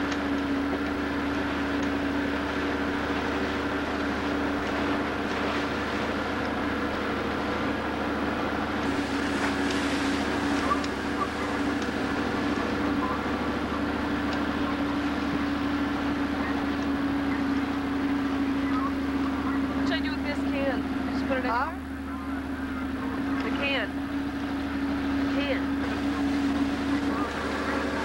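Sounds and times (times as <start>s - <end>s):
boat engine droning: 0.0s - 28.0s
water wash: 0.0s - 28.0s
wind: 0.0s - 28.0s.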